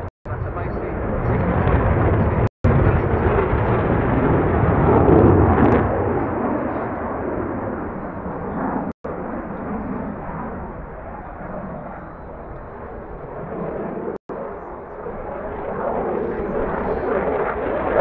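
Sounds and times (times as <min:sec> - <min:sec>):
jet engine rushing roar: 0:00.0 - 0:18.0.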